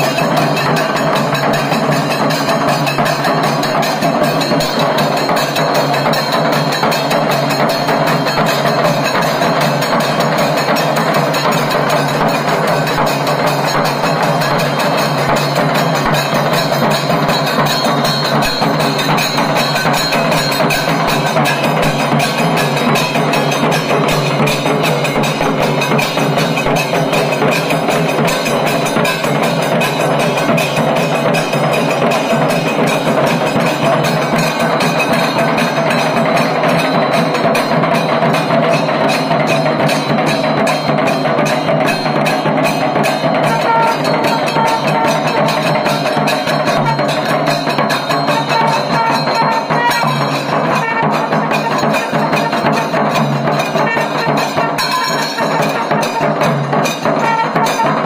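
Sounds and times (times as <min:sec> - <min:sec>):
bell-like clacking strikes: 0:00.0 - 0:58.0
percussion music: 0:00.0 - 0:58.0.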